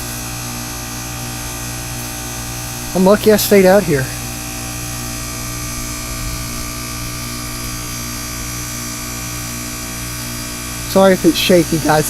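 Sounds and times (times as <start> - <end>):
even hiss: 0.0 - 12.0
heat pump unit humming: 0.0 - 12.0.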